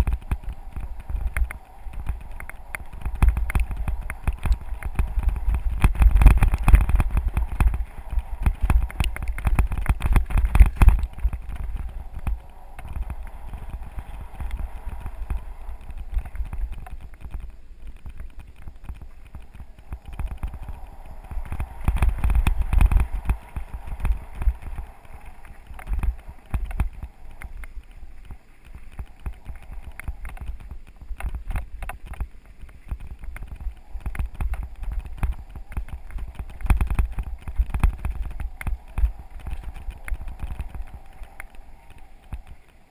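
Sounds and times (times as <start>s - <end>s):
bike rattling over gravel: 0.0s - 42.9s
wind rumble on microphone: 0.0s - 42.9s.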